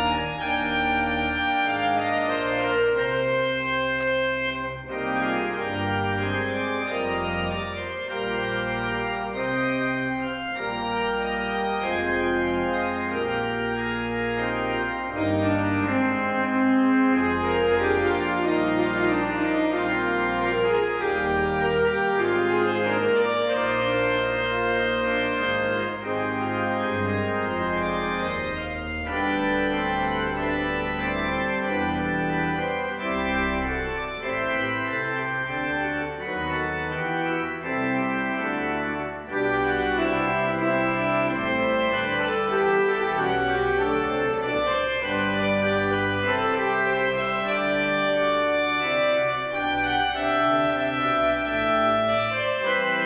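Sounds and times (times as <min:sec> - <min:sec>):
organ bass line: 0:00.0 - 0:53.0
organ chords: 0:00.0 - 0:53.0.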